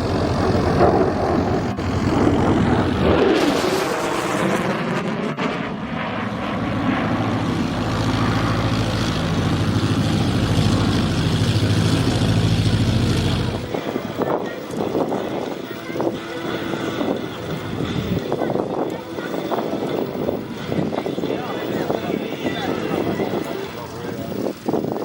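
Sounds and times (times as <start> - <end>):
jet roaring past: 0.0 - 25.0.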